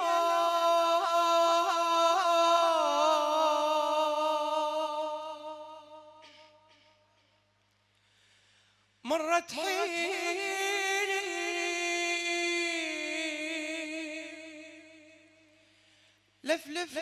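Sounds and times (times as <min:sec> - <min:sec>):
man chanting a lament: 0:00.0 - 0:06.7, 0:09.0 - 0:15.6, 0:16.4 - 0:17.0.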